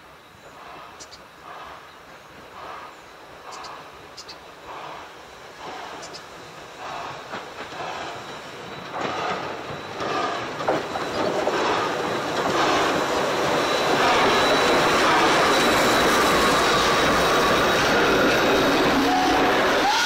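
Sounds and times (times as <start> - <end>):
steam train rumble: 0.0 - 20.0.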